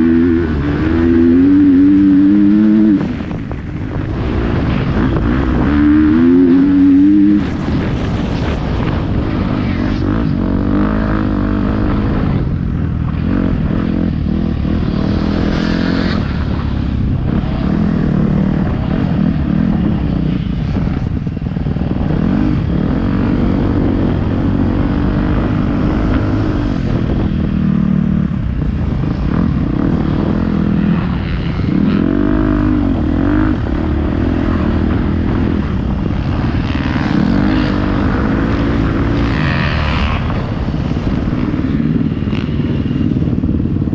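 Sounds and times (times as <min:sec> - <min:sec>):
motocross bike engine revving: 0:00.0 - 0:43.9
wind rumble on microphone: 0:00.0 - 0:43.9.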